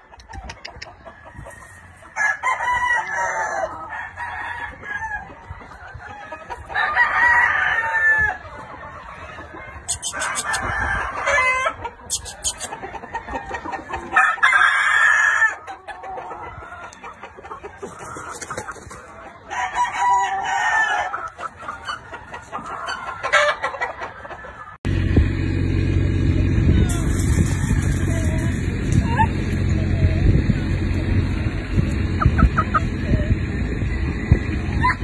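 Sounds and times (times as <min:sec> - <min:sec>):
roosters crowing: 0:00.0 - 0:35.0.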